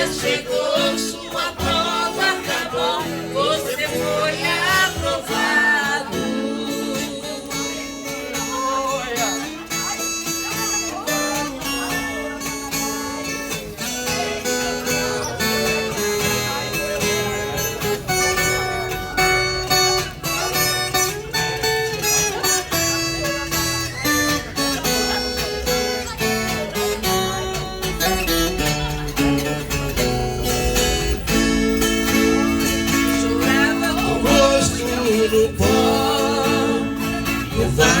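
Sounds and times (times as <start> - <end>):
ten-string guitar melody: 0.0 - 38.0.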